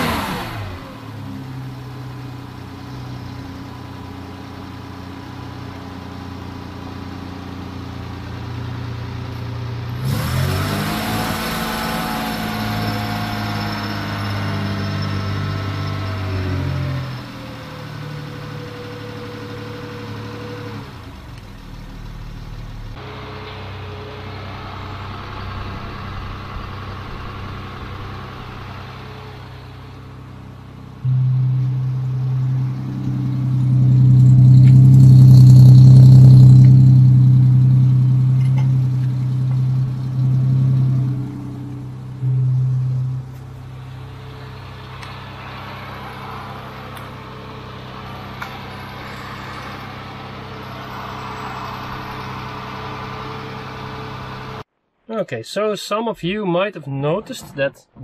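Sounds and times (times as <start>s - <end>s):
petrol engine running and revving: 0.0s - 54.7s.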